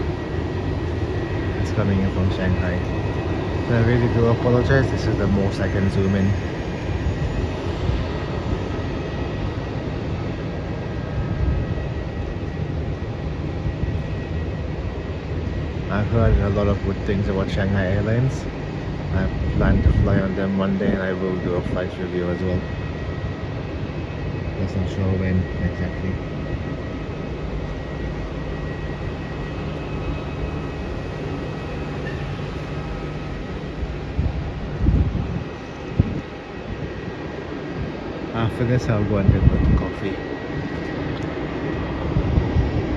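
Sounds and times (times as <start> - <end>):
distant jet engines rumbling: 0.0 - 42.9
faint high whine: 0.0 - 42.9.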